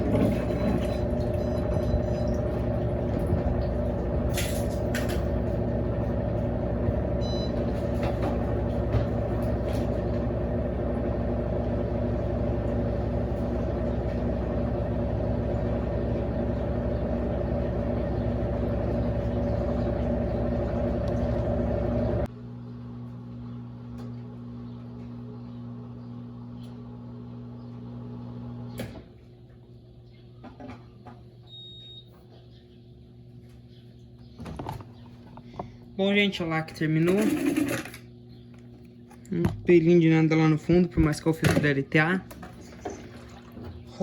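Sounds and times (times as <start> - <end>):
washing machine humming: 0.0 - 44.0.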